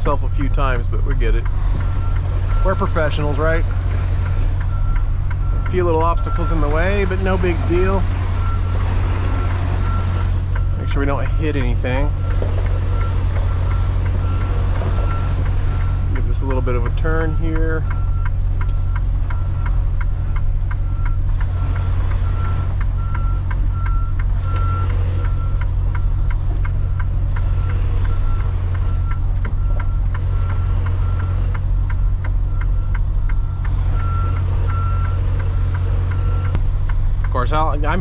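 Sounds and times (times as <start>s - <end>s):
diesel engine rumble: 0.0s - 38.0s
truck backup alarm beeping: 0.0s - 38.0s.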